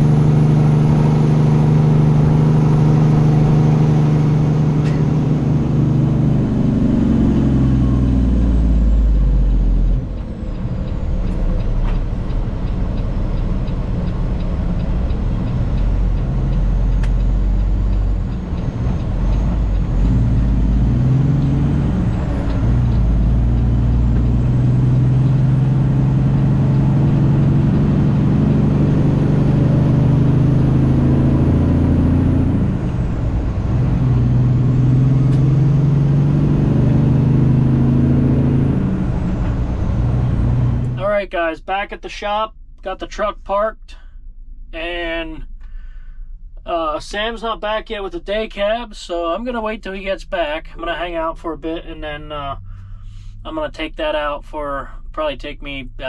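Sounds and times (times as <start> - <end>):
semi truck diesel engine: 0.0 - 56.0.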